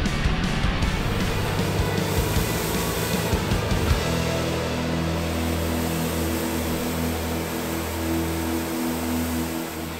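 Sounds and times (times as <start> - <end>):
background music with low notes: 0.0 - 9.9
tractor throwing snow: 1.0 - 9.9.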